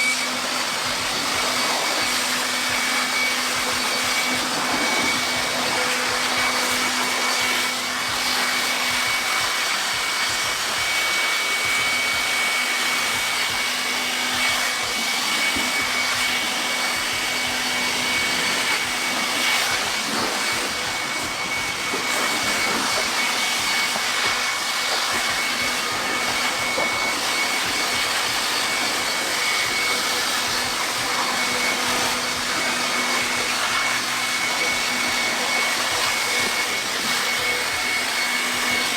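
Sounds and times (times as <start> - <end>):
air blower hiss and whine: 0.0 - 38.9.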